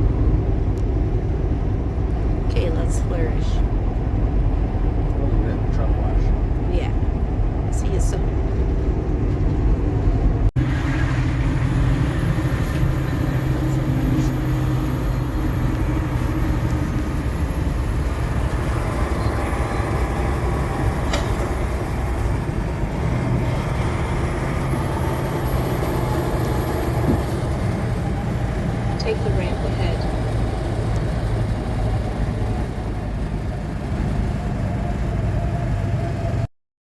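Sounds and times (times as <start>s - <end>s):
diesel truck engine drone: 0.0s - 36.5s
road and tyre noise: 0.0s - 36.5s.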